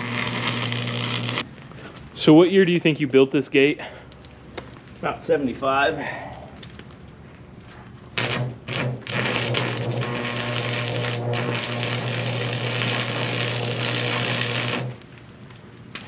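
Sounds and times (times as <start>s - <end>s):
welding arc crackling sizzle: 0.0s - 1.6s, 4.2s - 16.0s
low electrical hum: 0.0s - 16.0s.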